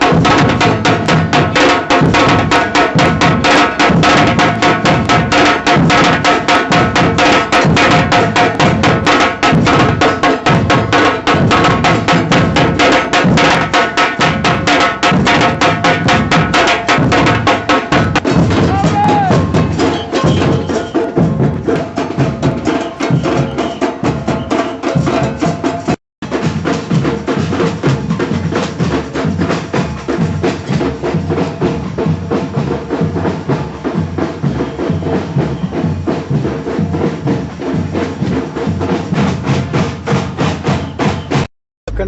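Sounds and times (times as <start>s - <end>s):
drum band playing fast beat: 0.0s - 42.0s.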